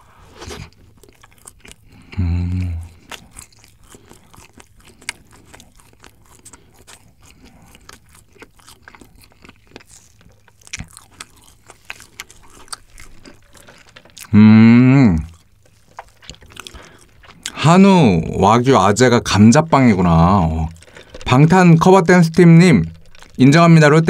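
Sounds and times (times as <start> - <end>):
wet chewing mouth clicks: 0.4 - 14.4, 15.2 - 17.6, 19.0 - 23.4.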